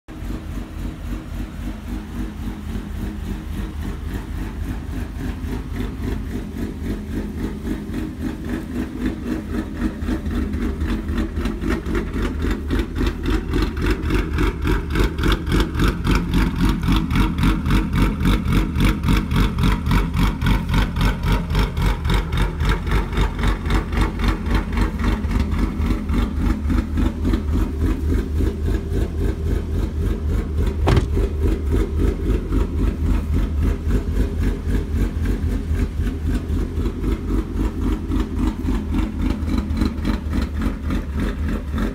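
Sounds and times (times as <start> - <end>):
car engine idling lopey: 0.1 - 41.9.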